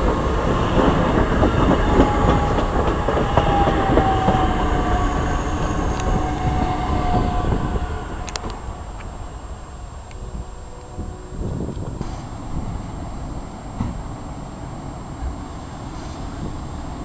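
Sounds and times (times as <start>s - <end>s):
electric train rumbling past: 0.0s - 17.0s
falling whine: 0.0s - 17.0s.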